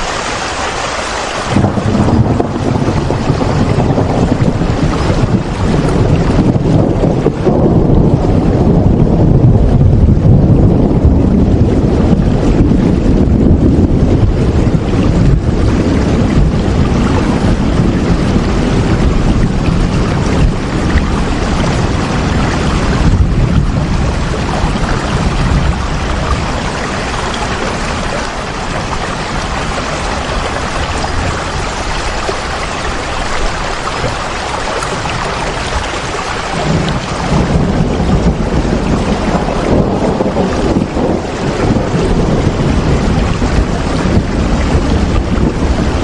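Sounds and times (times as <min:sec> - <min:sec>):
heavy rain hissing: 0:00.0 - 0:08.7, 0:14.5 - 0:46.0
deep low rumble: 0:01.5 - 0:32.9, 0:34.8 - 0:46.0.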